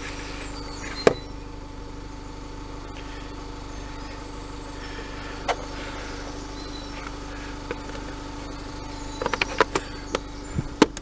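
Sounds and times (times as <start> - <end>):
steady engine-like hum: 0.0 - 11.0.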